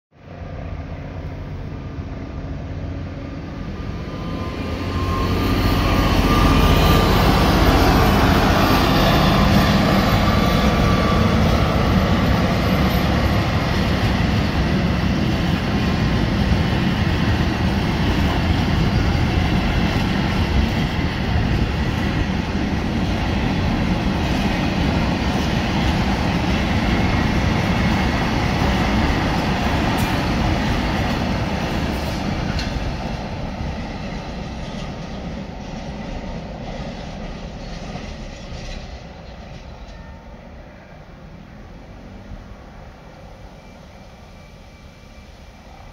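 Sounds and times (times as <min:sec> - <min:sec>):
diesel locomotive engine: 0:00.2 - 0:45.9.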